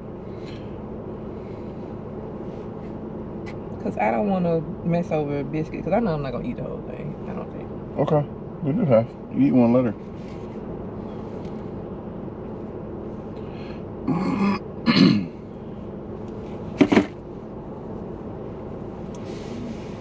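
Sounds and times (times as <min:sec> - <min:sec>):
car interior hum: 0:00.0 - 0:20.0.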